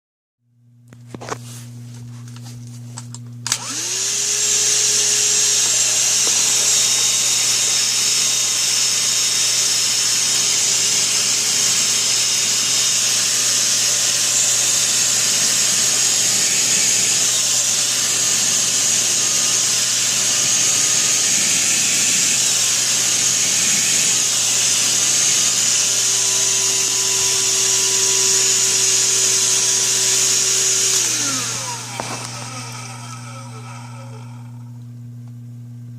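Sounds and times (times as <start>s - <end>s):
handheld vacuum motor whining: 3.4s - 34.9s.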